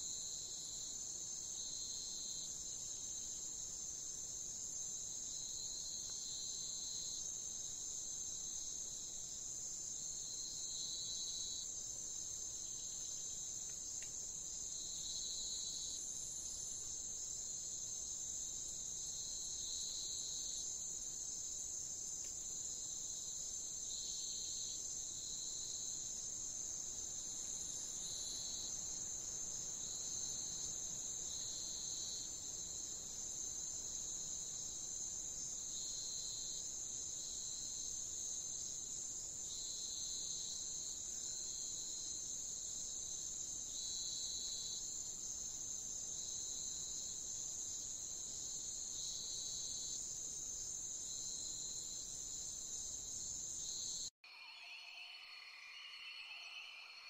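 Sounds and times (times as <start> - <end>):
insects trilling: 0.0 - 57.0
lower insect chirping: 0.0 - 57.0.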